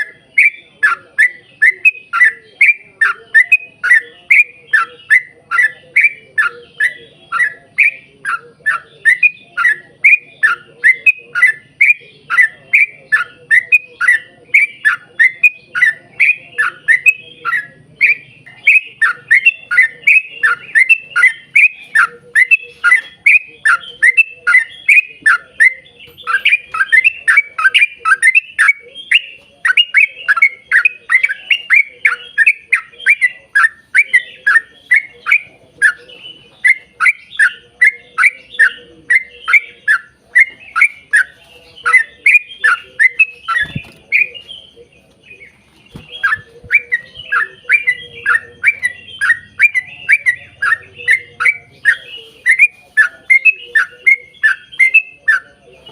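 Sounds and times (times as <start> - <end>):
bulbul singing: 0.0 - 55.9.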